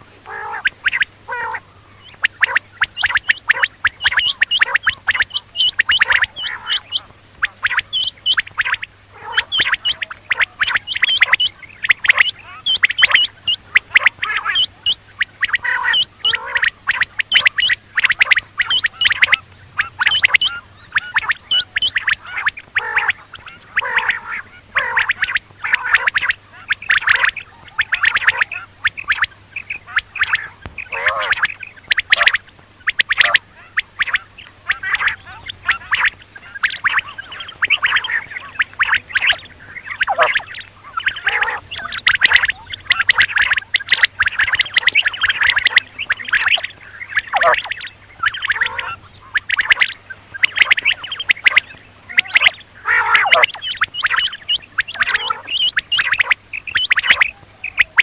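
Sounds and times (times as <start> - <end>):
faint low hum: 0.0 - 58.0
quail calling: 0.0 - 58.0.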